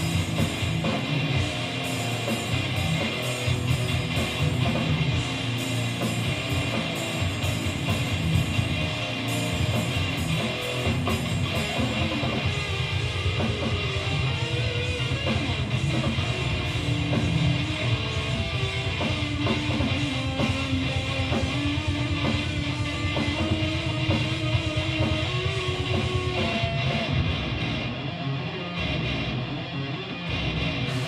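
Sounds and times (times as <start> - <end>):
drum kit: 0.0 - 28.1, 30.2 - 31.0
electric guitars: 0.0 - 31.0.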